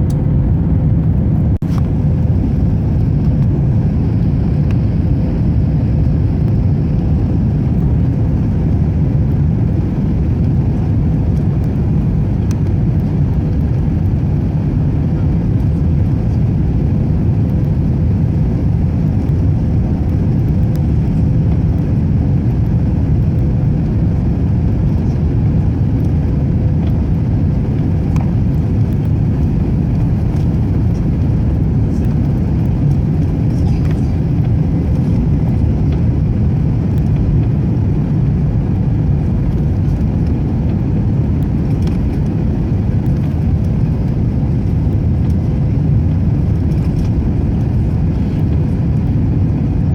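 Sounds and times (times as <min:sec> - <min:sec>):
airplane cabin engine rumble: 0:00.0 - 0:49.9
faint constant hum: 0:00.0 - 0:49.9.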